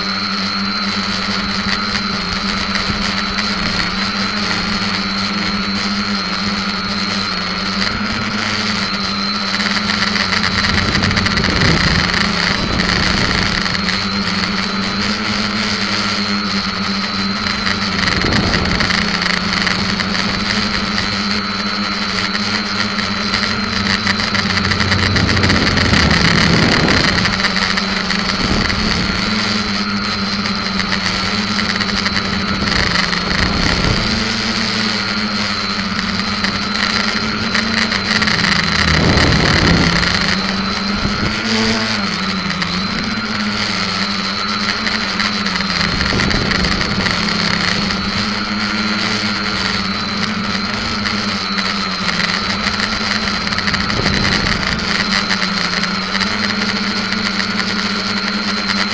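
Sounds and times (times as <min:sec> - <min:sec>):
quadcopter propellers whining: 0:00.0 - 0:58.9.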